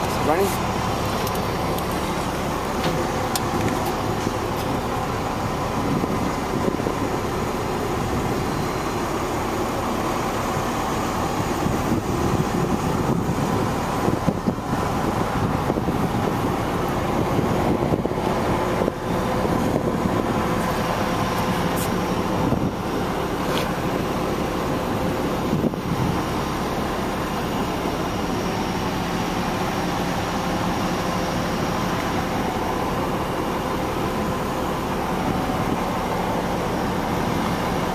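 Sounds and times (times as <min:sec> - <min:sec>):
truck engine idling: 0:00.0 - 0:37.9.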